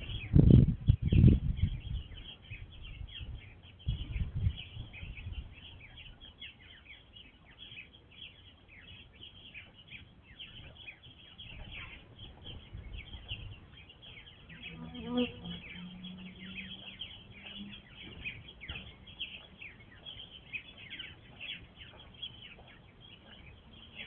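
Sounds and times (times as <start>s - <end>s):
many small birds chirping: 0.0s - 24.0s.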